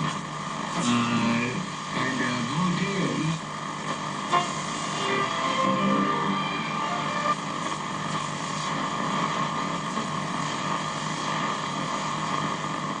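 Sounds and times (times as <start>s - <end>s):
steady rushing hiss: 1.6s - 13.0s.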